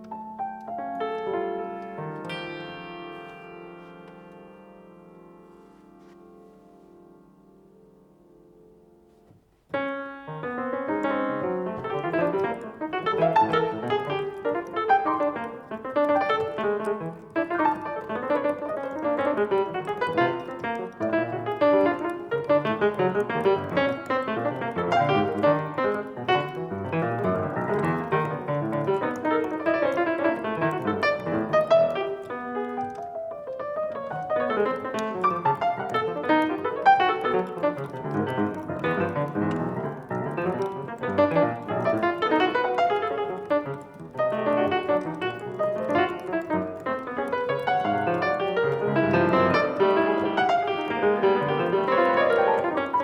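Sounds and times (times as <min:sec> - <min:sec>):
solo piano quick notes: 0:00.0 - 0:53.0.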